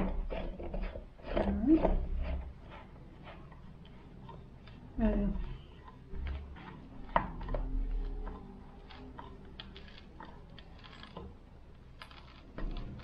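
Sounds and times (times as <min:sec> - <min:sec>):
threaded wooden leg clicking and scraping: 0:00.0 - 0:13.0.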